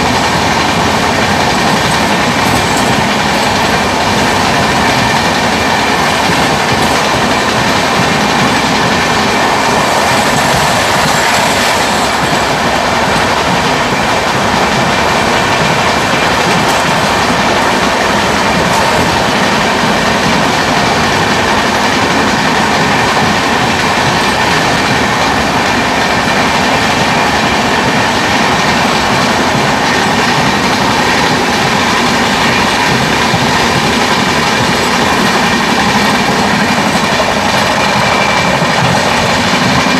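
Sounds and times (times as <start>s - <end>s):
trains rushing at speed: 0.0s - 39.9s
wind: 0.0s - 39.9s.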